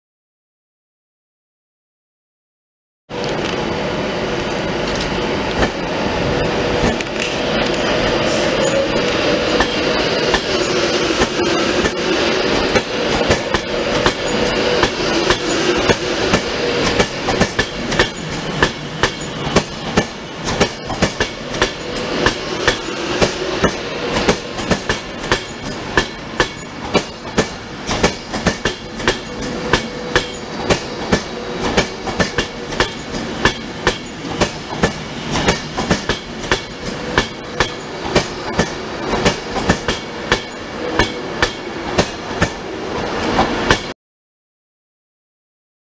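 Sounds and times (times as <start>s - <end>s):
electric train hum: 3.1s - 43.9s
wheels clickety-clack over rail joints: 4.4s - 5.9s, 6.8s - 43.9s.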